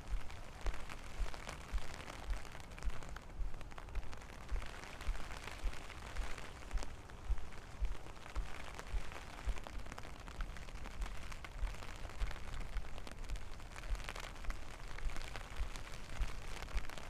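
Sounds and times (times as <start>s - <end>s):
footsteps in rain: 0.0s - 17.0s
rain pattering: 0.0s - 17.0s.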